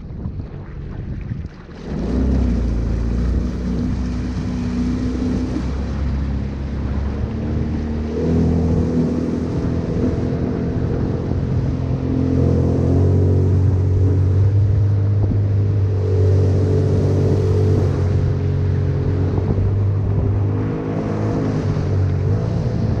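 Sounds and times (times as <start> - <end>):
jet ski engine revving: 1.7 - 23.0.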